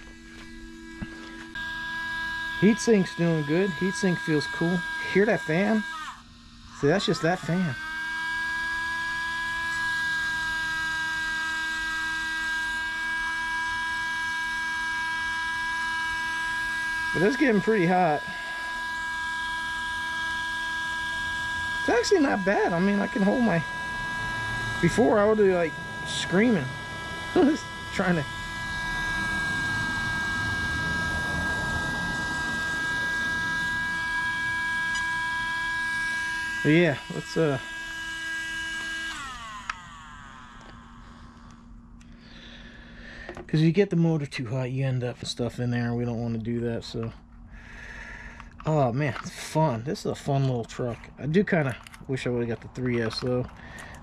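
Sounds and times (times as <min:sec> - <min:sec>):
small electric fan whining: 0:00.0 - 0:54.0.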